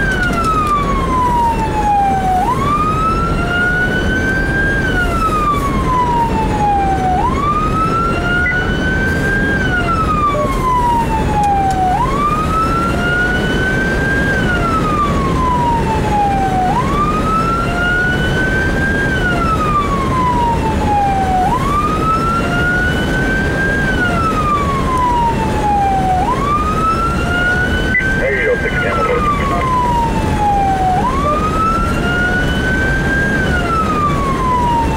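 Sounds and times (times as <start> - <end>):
siren wailing: 0.0 - 34.9
vehicle engine and road noise: 0.0 - 34.9.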